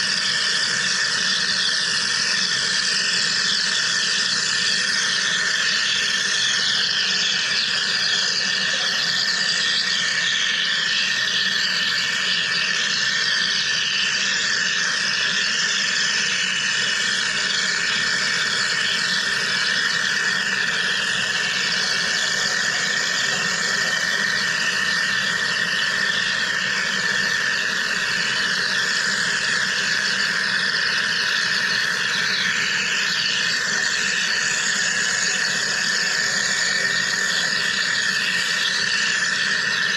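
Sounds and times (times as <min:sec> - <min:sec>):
constant high-pitched tone: 0:00.0 - 0:39.9.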